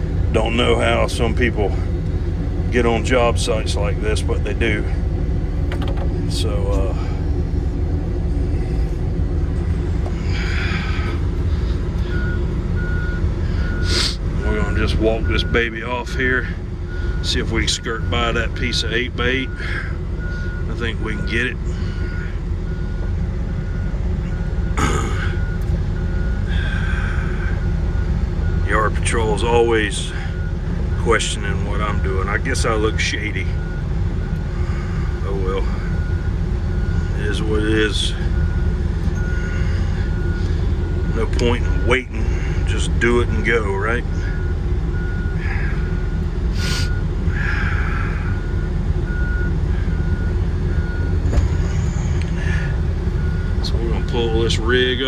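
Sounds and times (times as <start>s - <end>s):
diesel engine rumbling: 0.0s - 55.0s
travel alarm beeping: 0.0s - 55.0s.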